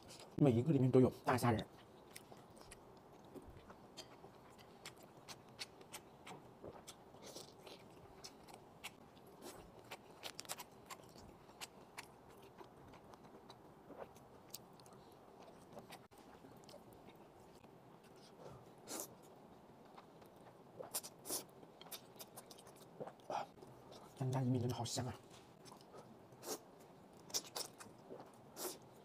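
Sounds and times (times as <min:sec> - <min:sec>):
close-up chewing: 0:01.7 - 0:24.2, 0:25.5 - 0:29.0.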